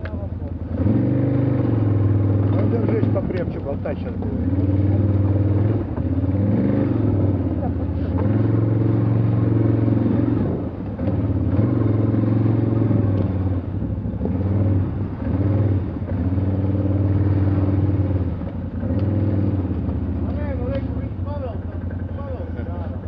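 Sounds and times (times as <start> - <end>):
vehicle engine revving: 0.0 - 23.0.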